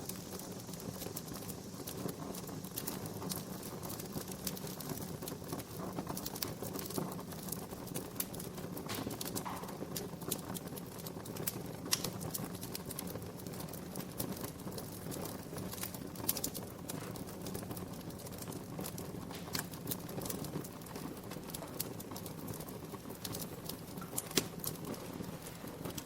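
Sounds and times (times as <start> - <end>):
low hiss of burning: 0.0 - 26.0
wood fire crackling and popping: 0.0 - 26.0.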